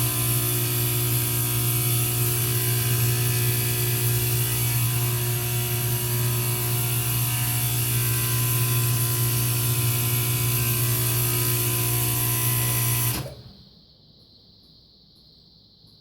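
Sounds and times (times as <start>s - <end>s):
heating unit hum: 0.0s - 14.7s.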